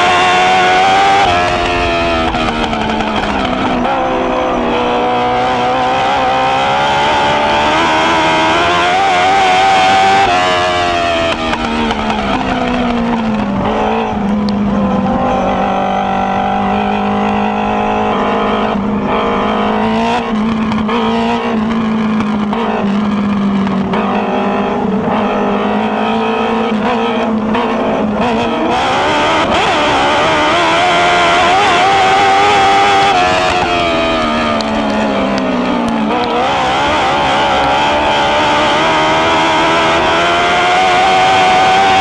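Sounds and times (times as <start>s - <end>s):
race car engine: 0.0s - 42.0s.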